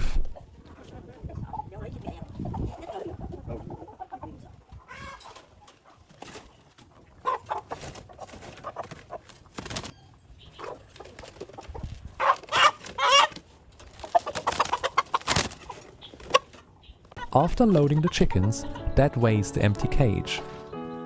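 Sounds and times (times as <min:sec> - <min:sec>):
chickens squawking and clucking: 0:00.0 - 0:19.4.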